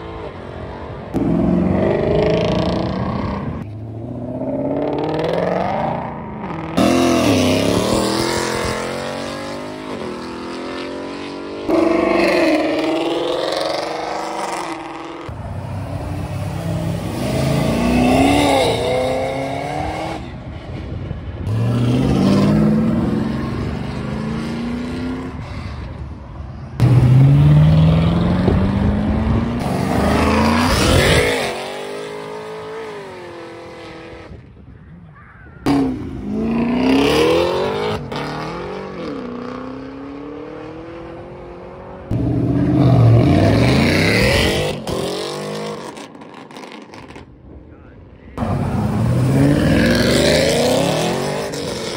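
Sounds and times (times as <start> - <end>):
car engines accelerating hard: 0.0 - 34.4, 35.6 - 47.3, 48.4 - 51.9.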